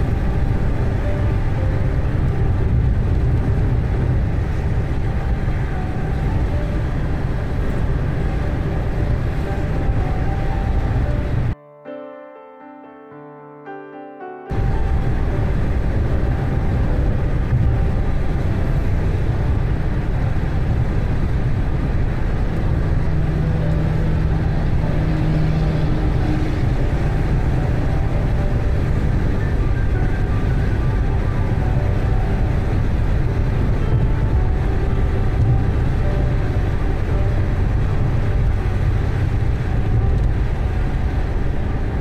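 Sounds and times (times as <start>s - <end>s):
car driving on highway: 0.0s - 11.6s, 14.5s - 42.0s
low hum: 0.0s - 11.6s, 14.5s - 42.0s.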